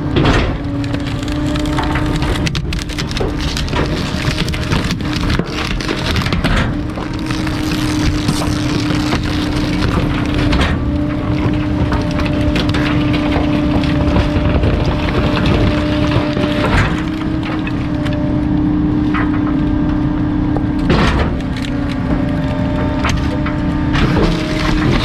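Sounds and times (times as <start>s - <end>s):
garbage truck humming: 0.0s - 25.0s
wood cracking and splintering: 0.0s - 25.0s.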